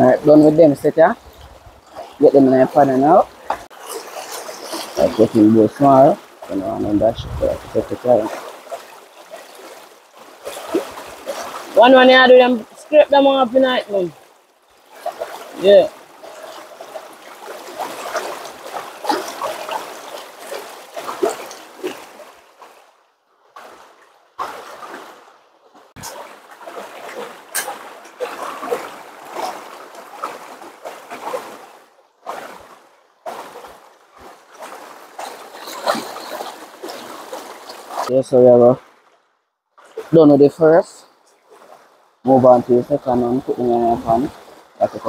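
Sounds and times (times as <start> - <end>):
water splashing and trickling: 0.0 - 45.0.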